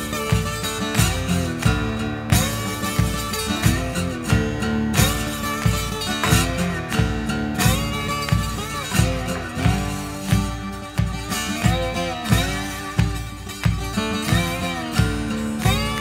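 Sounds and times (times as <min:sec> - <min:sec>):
background music with steady beat: 0:00.0 - 0:16.0.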